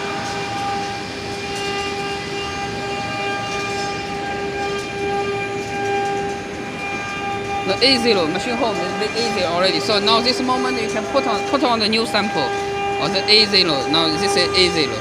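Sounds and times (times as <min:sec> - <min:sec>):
engraving machine motors whining: 0:00.0 - 0:15.0.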